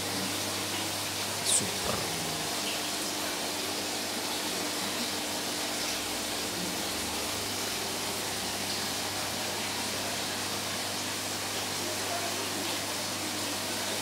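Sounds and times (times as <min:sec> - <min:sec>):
aquarium water circulating: 0:00.0 - 0:14.0.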